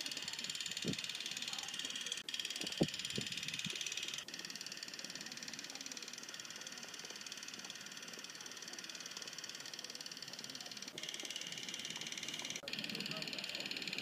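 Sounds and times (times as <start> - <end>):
film projector mechanical ticking: 0.0 - 14.0.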